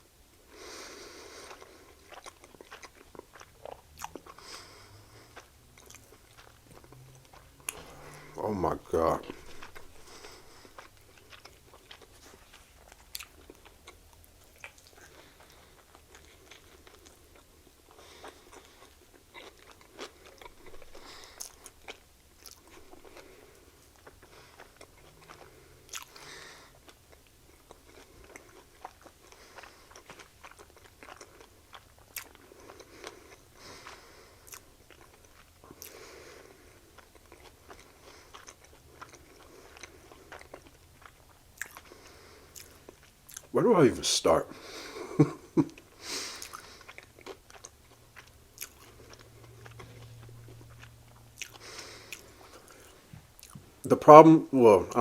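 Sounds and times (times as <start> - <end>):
crunching of food: 1.1 - 43.6, 44.6 - 53.9
wet mouth chewing smacks: 1.3 - 8.4, 9.2 - 36.0, 37.0 - 43.6, 45.6 - 53.8.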